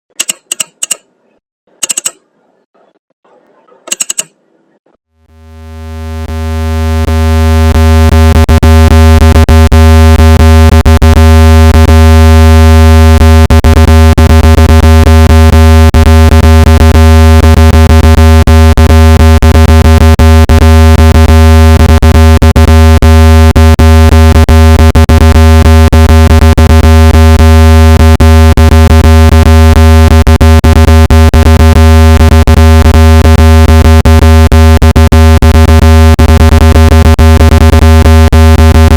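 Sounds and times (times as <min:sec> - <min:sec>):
loud low buzzing tone: 0:05.2 - 0:38.9.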